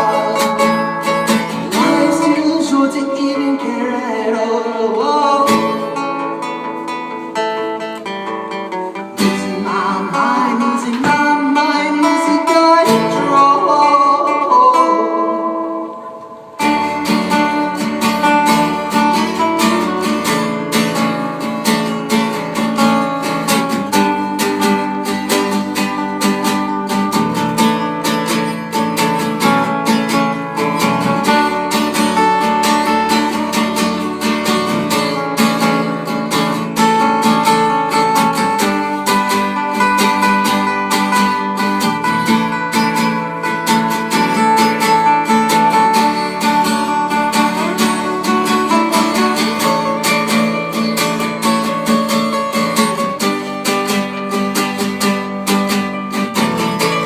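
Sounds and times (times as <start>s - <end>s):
guitar strumming and picking: 0.0s - 57.0s.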